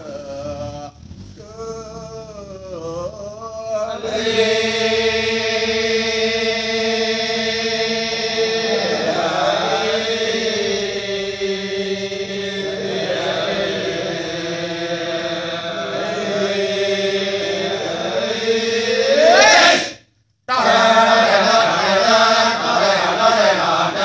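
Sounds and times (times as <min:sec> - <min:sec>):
group of men chanting: 0:00.0 - 0:24.0.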